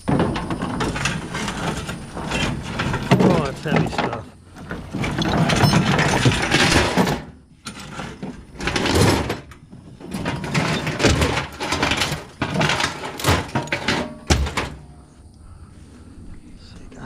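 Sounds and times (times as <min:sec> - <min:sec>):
metal chain rattling and clanking: 0:00.0 - 0:15.0.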